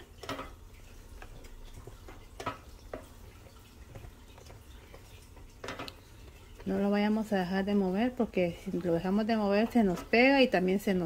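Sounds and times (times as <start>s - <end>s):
boiling milk popping: 0.0s - 11.0s.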